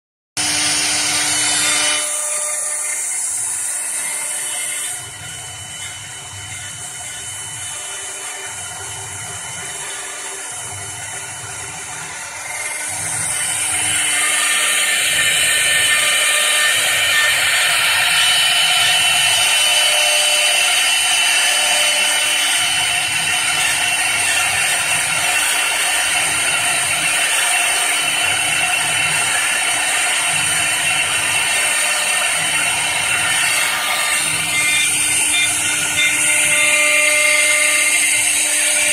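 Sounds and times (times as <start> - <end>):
wood lathe machining whine: 0.4 - 38.9
hiss of wood cutting: 6.8 - 38.9.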